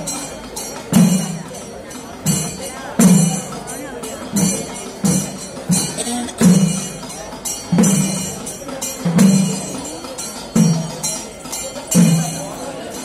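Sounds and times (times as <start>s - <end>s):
cymbals clashing: 0.0s - 13.0s.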